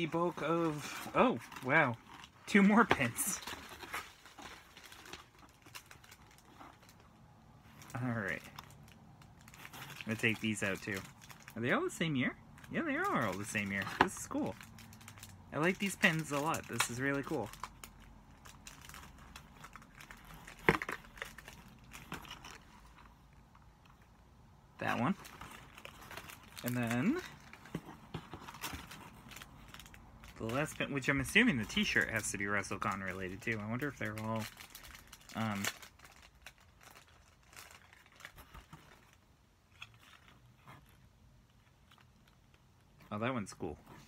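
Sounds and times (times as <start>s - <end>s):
items handled in cardboard box: 0.0s - 11.6s, 12.6s - 24.0s, 24.8s - 43.1s
packaging crinkling: 0.0s - 11.7s, 12.5s - 23.3s, 24.8s - 43.0s.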